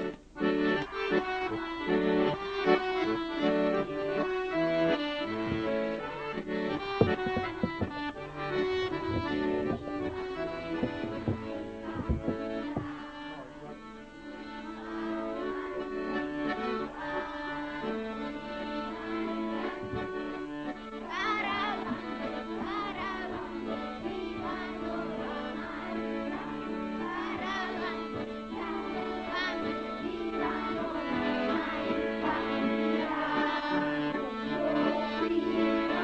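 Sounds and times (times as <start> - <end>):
accordions playing folk dance tune: 0.0 - 36.0.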